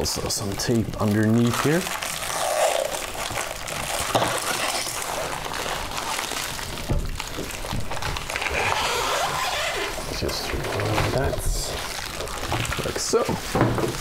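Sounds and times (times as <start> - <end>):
packaging tape peeling: 0.0 - 14.0
plastic wrapping crinkling: 0.0 - 14.0.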